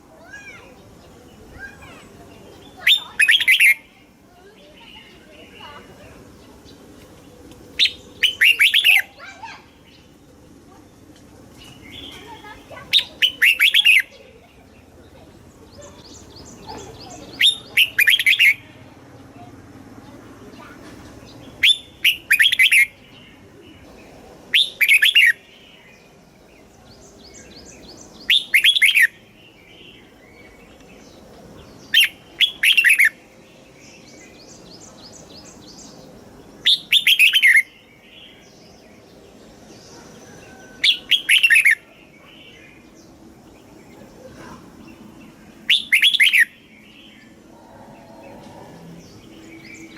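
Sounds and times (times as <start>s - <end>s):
bird singing short phrases: 0.1s - 6.8s, 7.8s - 10.1s, 11.6s - 14.8s, 15.7s - 18.8s, 20.5s - 26.2s, 27.0s - 39.1s, 40.0s - 49.9s
faint bird chirps: 0.1s - 6.8s, 7.8s - 10.9s, 11.5s - 49.9s.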